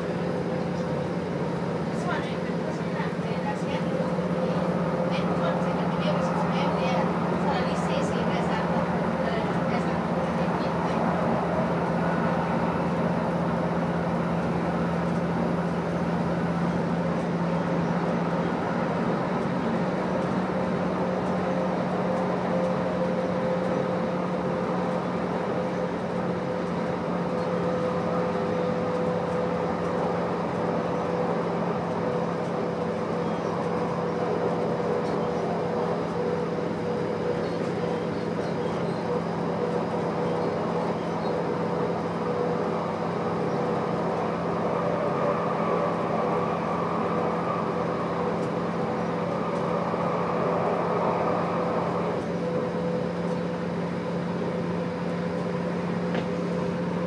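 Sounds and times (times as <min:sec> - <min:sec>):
diesel train running: 0:00.0 - 0:57.0.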